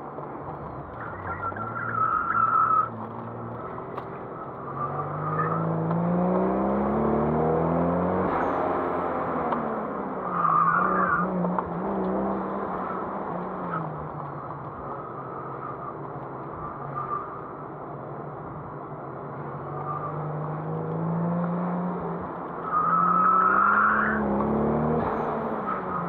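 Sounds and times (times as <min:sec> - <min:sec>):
car engine accelerating: 0:00.4 - 0:17.6, 0:19.1 - 0:26.0
tires squealing: 0:00.6 - 0:17.7, 0:19.4 - 0:20.9, 0:22.4 - 0:26.0.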